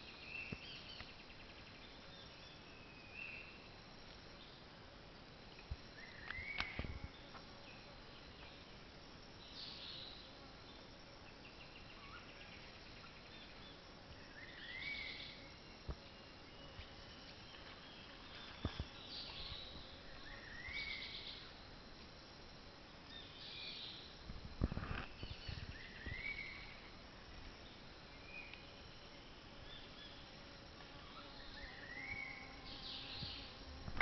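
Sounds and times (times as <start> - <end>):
faint insect hum: 0.0 - 34.0.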